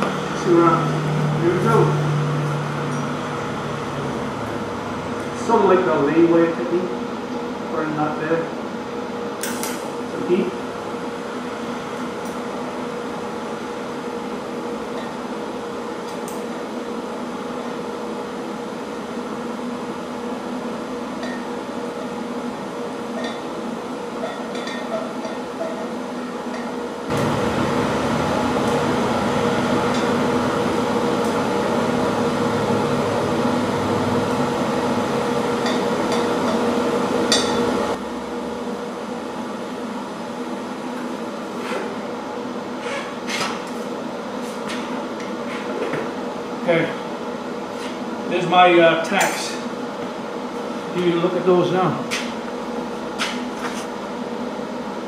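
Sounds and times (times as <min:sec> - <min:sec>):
welder arc humming: 0:00.0 - 0:45.4.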